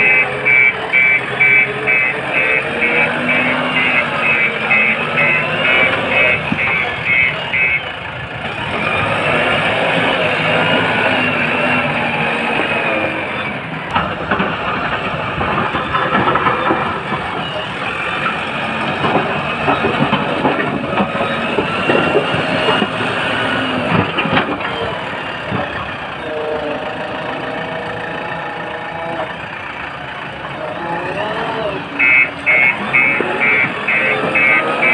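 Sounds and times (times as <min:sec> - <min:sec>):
diesel engine under load: 0:00.0 - 0:34.9.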